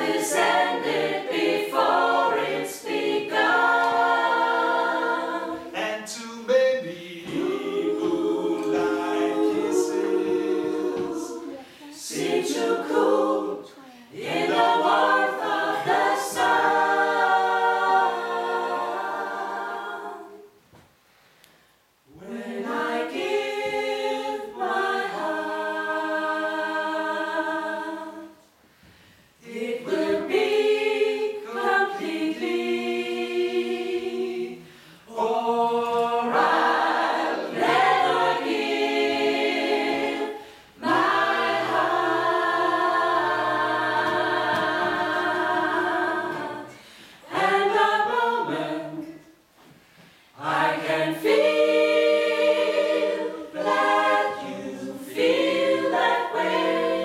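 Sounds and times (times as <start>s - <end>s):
a cappella group singing harmony: 0.0s - 57.0s.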